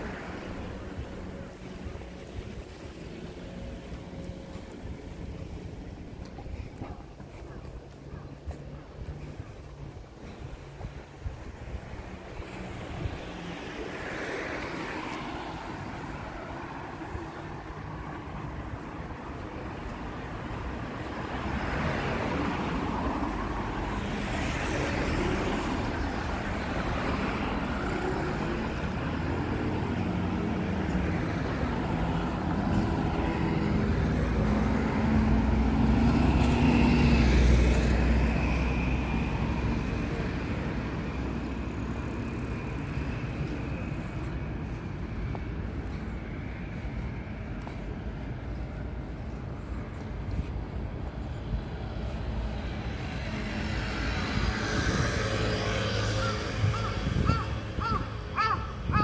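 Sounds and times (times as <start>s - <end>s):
cars passing: 0.0s - 59.0s
vehicle engine rumble: 0.0s - 59.0s.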